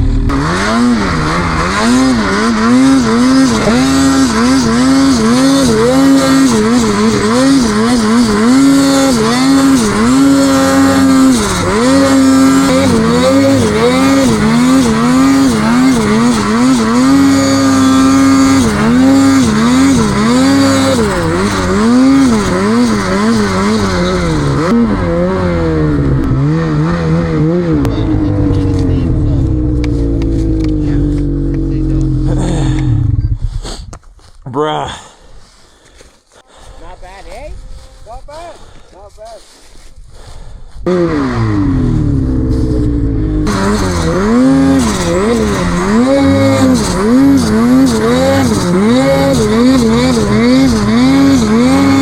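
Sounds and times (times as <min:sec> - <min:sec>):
snowmobile engine revving: 0:00.0 - 0:33.9, 0:40.2 - 0:52.0.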